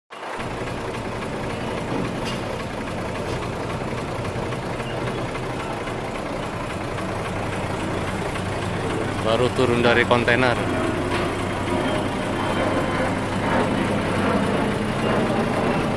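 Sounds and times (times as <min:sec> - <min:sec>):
diesel engine idling: 0:00.2 - 0:15.9.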